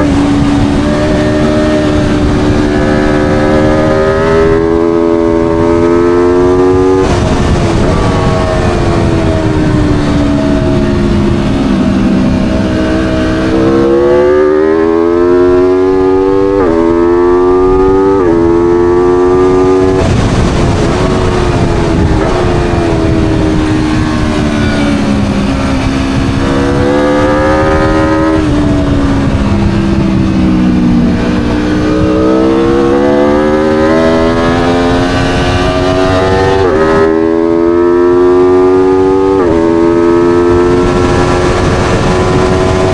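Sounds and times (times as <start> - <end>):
motorcycle engine at full throttle: 0.0 - 42.9
wind rushing: 0.0 - 42.9.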